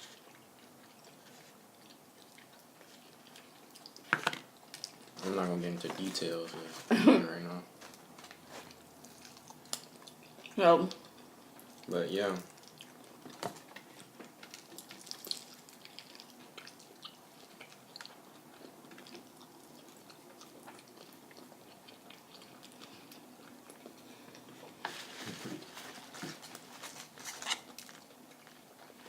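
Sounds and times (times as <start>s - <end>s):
chewing fried chicken: 0.0s - 29.0s.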